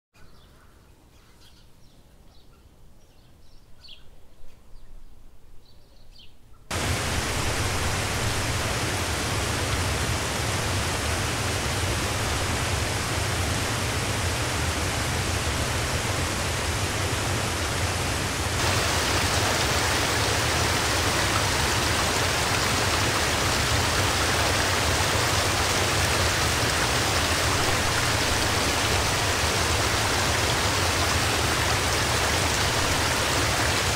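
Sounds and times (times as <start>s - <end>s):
water running over rocks: 6.7s - 33.9s
waterfall rushing: 6.7s - 33.9s.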